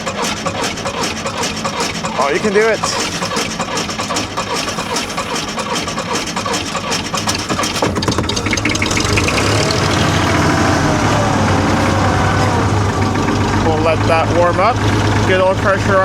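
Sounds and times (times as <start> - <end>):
diesel tractor engine running roughly: 0.0 - 16.0.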